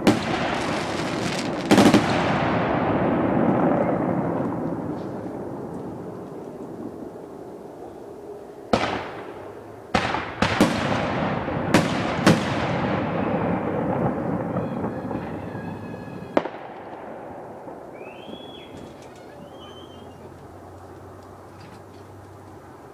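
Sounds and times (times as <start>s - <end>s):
fireworks bangs: 0.0s - 20.6s
fireworks crackling: 0.0s - 22.9s.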